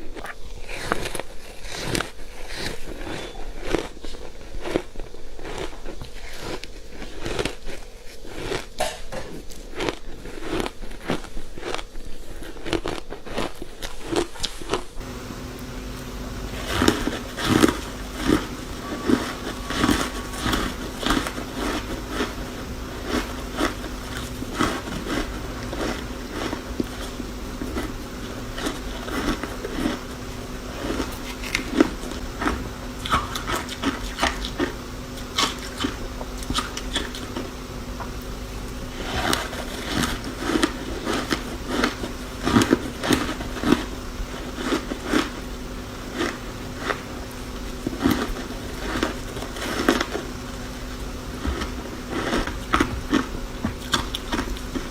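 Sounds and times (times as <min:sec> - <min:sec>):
faint steady hum: 0:00.0 - 0:54.9
chewing ice cubes: 0:00.2 - 0:54.9.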